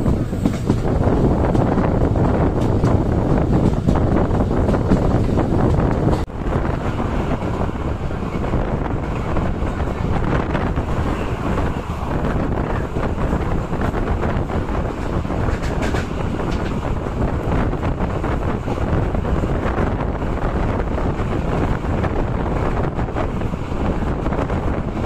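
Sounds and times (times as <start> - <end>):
train running on rails: 0.0 - 25.0
wind on microphone: 0.0 - 25.0.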